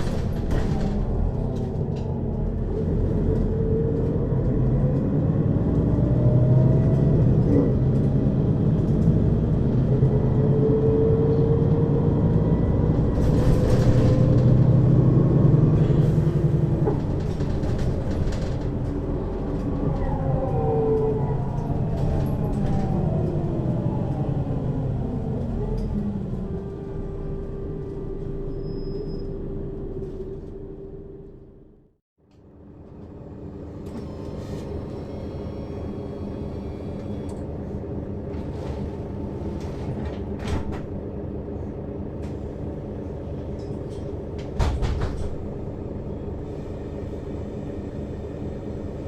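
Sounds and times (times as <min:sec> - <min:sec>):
bus diesel engine rumbling: 0:00.0 - 0:49.0.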